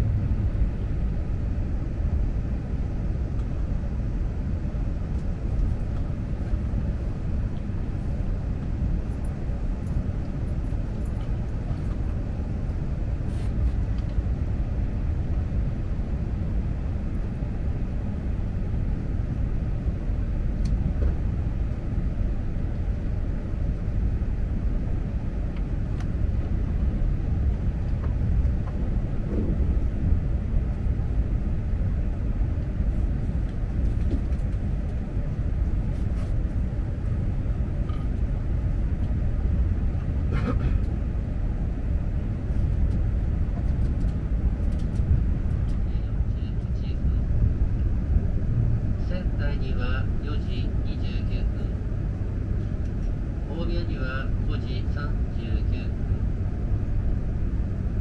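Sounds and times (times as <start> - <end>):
train running at speed: 0.0 - 58.0.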